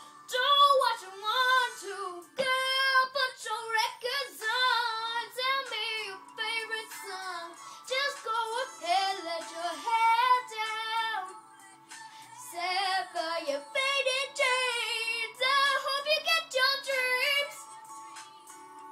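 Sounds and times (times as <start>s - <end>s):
girl singing: 0.0s - 18.5s.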